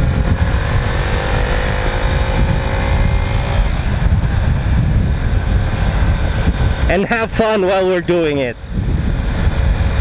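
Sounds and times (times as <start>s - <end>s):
faint motorcycle engine drone: 0.0s - 10.0s
wind buffeting microphone: 0.0s - 10.0s.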